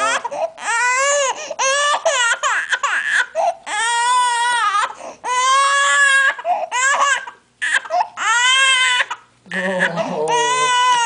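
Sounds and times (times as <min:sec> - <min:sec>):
baby crying: 0:00.0 - 0:11.0.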